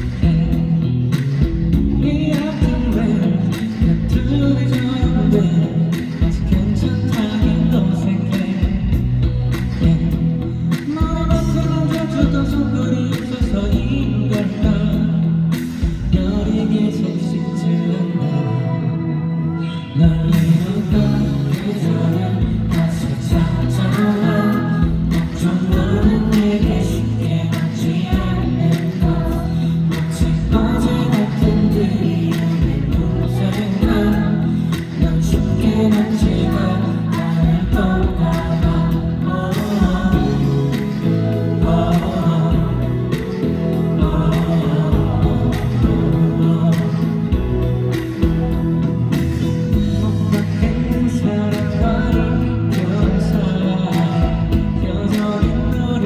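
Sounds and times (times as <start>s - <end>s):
live band music: 0.0s - 56.0s
man singing: 0.0s - 56.0s.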